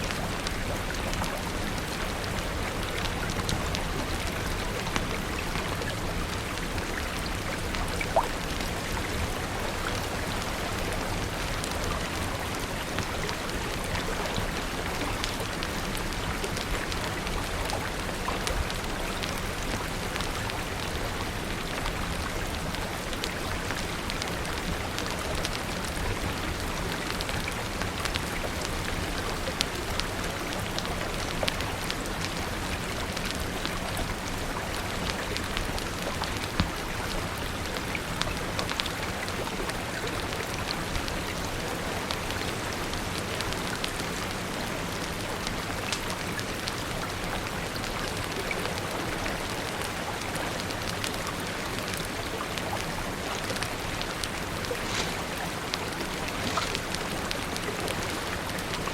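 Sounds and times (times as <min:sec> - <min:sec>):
rain hissing: 0:00.0 - 0:58.9
wood fire crackling: 0:00.0 - 0:58.9.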